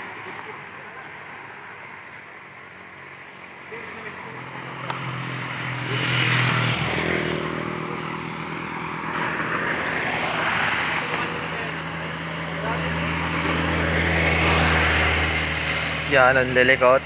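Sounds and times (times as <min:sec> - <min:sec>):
vehicles passing on road: 0:00.0 - 0:17.0.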